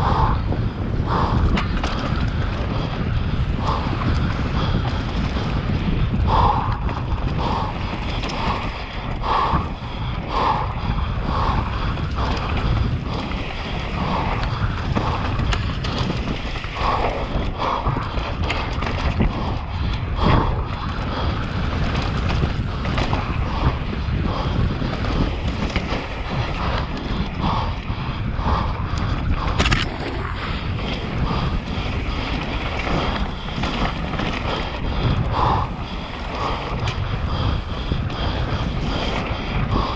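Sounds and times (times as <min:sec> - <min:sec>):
bike rattling over bumps: 0:00.0 - 0:39.9
tyres rumbling on trail: 0:00.0 - 0:39.9
wind buffeting microphone: 0:00.0 - 0:39.9.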